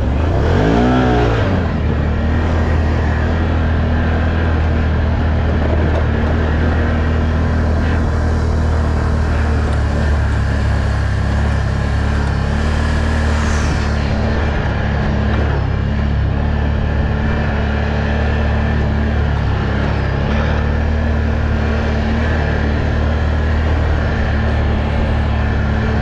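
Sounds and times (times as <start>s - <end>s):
off-road vehicle engine running: 0.0s - 26.0s
wind and rolling noise: 0.0s - 26.0s.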